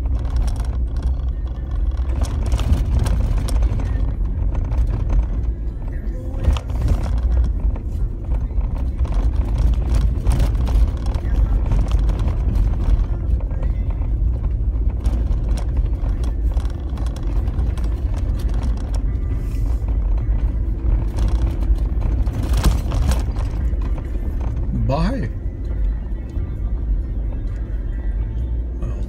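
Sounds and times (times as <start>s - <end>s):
knocks and rattles over bumps: 0.0s - 28.4s
engine and tyres rumbling: 0.0s - 29.0s.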